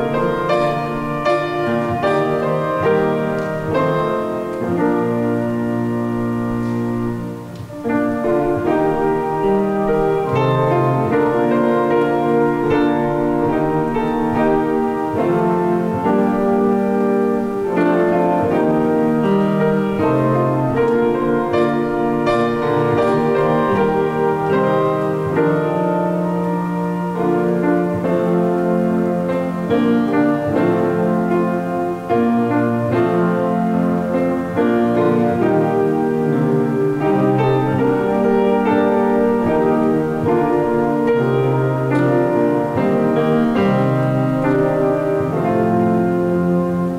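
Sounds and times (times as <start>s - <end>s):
slow keyboard chords: 0.0s - 46.9s.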